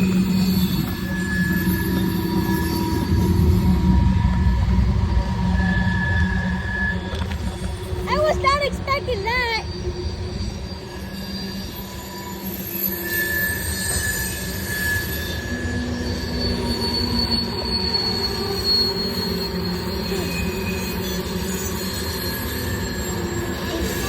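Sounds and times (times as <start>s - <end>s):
high wheel squeal: 0.0s - 24.0s
train wheels rushing on rail: 0.0s - 24.0s.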